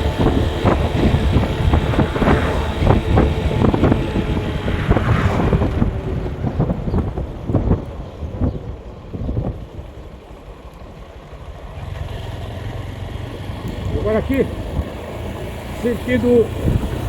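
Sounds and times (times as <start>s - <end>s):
wind on microphone: 0.0s - 11.6s, 13.8s - 17.0s
vehicle low rumble: 0.0s - 17.0s.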